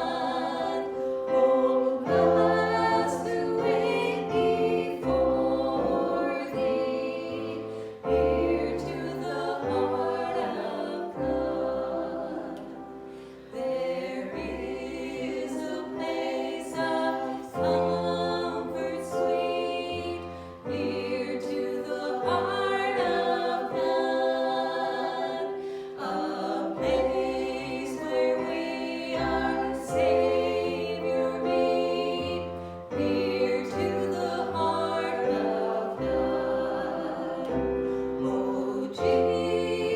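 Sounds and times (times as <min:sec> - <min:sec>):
congregation singing a worship song: 0:00.0 - 0:39.9.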